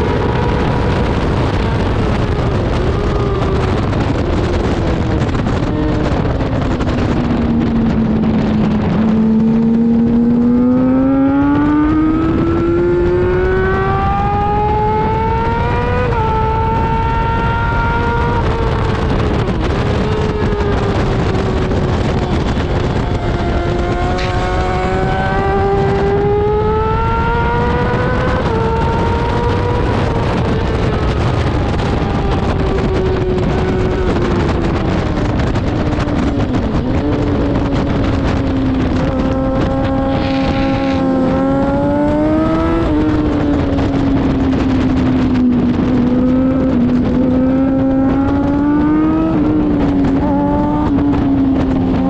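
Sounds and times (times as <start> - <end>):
motorcycle engine: 0.0 - 52.0
wind rush: 0.0 - 52.0.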